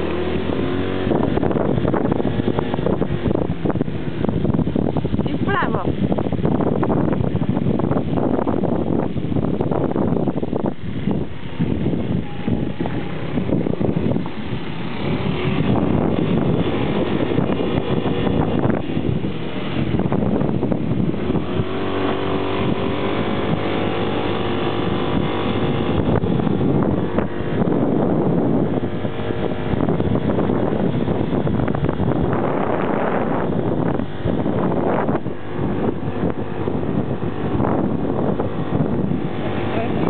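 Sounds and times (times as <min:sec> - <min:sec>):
small vehicle engine running: 0:00.0 - 0:07.0, 0:11.4 - 0:40.0
wind on microphone: 0:00.0 - 0:40.0.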